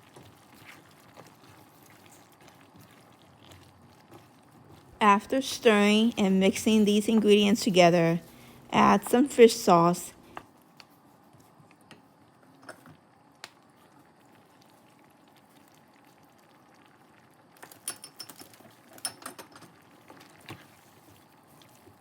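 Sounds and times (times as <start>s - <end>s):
curry bubbling in a pan: 0.0s - 7.2s, 10.3s - 22.0s.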